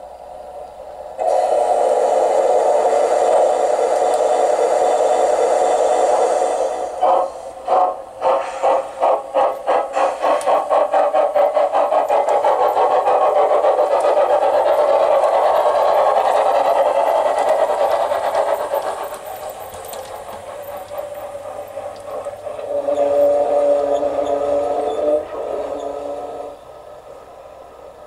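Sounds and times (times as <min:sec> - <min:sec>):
steam locomotive chuffs from loudspeaker: 0:01.1 - 0:28.0.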